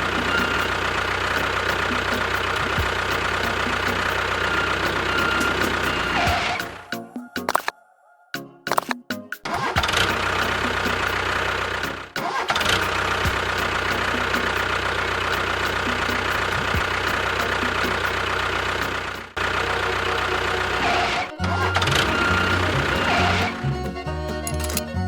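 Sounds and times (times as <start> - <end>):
machine motor running: 0.0 - 6.8, 9.6 - 24.9.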